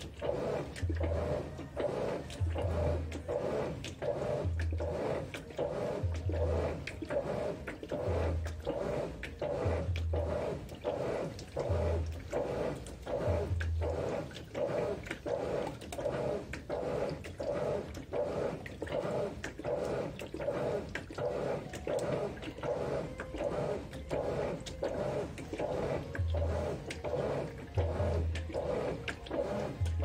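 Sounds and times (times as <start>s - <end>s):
low motor hum: 0.0s - 30.0s
washing machine water sloshing: 0.0s - 30.0s.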